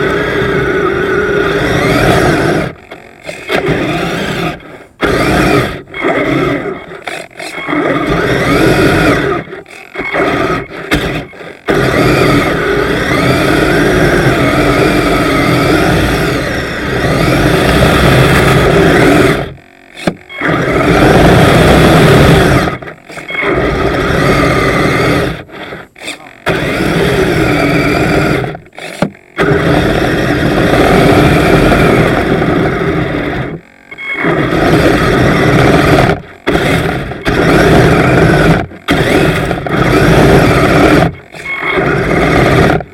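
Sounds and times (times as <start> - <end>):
electric motors whining: 0.0 - 42.9.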